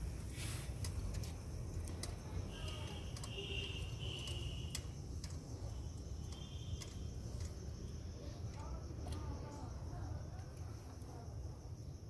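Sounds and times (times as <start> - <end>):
faint high steady tone: 2.0 - 12.0.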